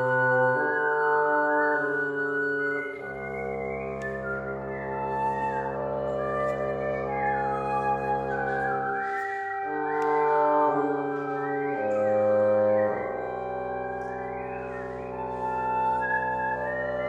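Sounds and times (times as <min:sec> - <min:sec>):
wind ensemble chamber music: 0:00.0 - 0:17.0.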